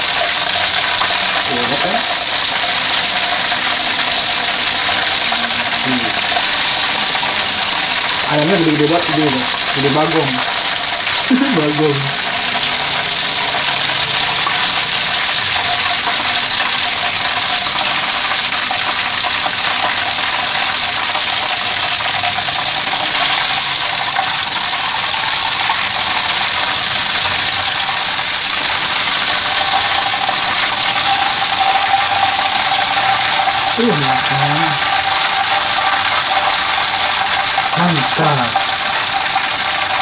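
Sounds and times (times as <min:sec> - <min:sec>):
chicken deep-frying in oil: 0:00.0 - 0:40.0.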